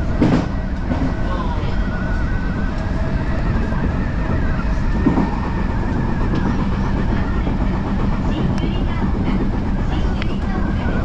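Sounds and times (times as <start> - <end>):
electric train rumbling on track: 0.0 - 11.0.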